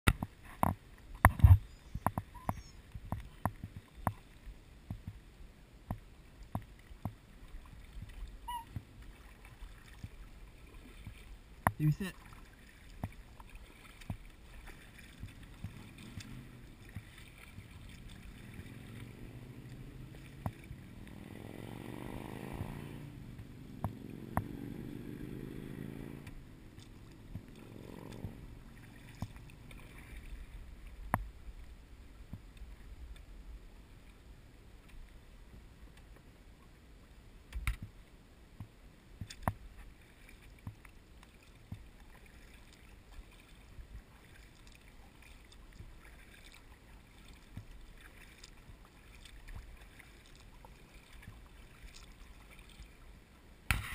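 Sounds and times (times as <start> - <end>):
low rumble of water: 0.1 - 53.9.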